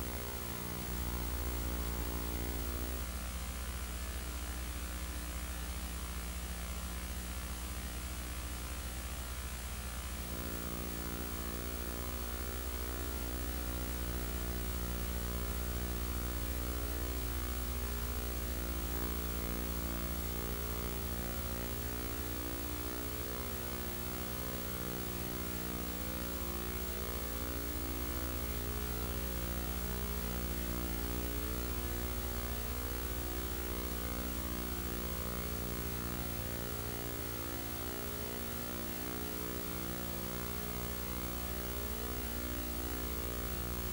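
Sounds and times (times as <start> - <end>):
constant hiss: 0.0 - 43.9
electrical mains hum: 0.0 - 43.9.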